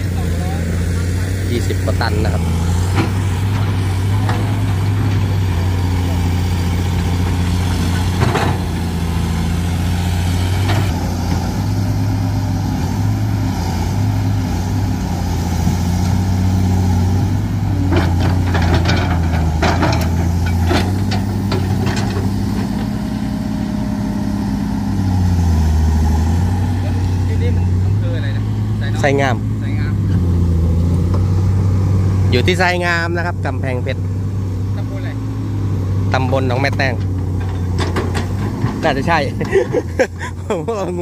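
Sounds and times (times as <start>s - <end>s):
excavator diesel engine running: 0.0s - 41.0s.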